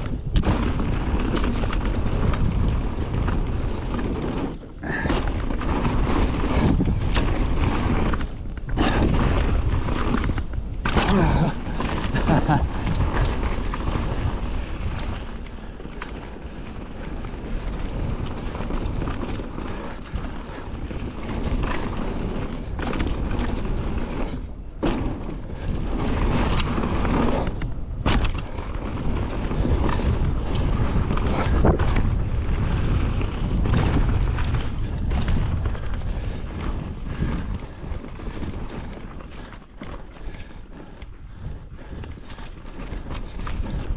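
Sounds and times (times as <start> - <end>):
bike rattling over rough trail: 0.0 - 43.9
wind buffeting microphone: 0.0 - 43.9.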